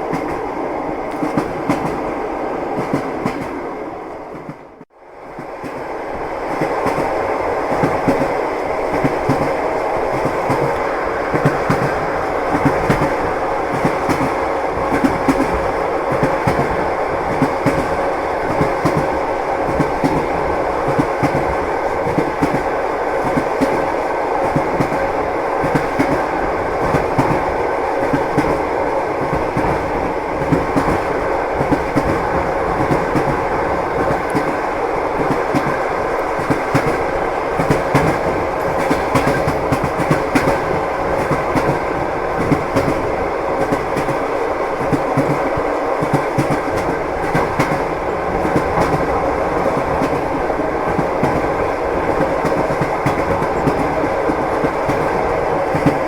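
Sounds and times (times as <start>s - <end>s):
train wheels clattering on rails: 0.0s - 3.7s, 4.3s - 56.0s.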